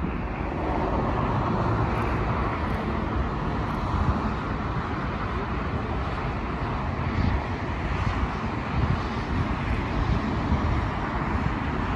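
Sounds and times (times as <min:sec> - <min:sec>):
distant jet engines rushing: 0:00.0 - 0:11.9
wind rumble on microphone: 0:00.0 - 0:11.9.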